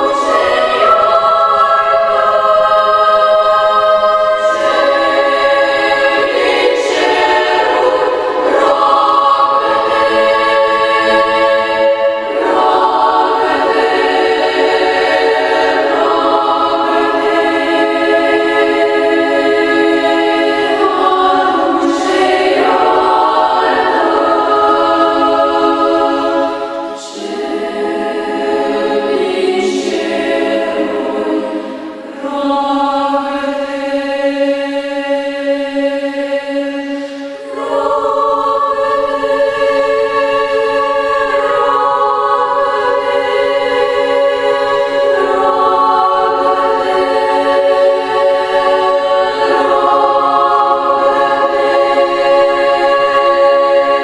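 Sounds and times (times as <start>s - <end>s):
girls' choir singing: 0.0s - 54.0s.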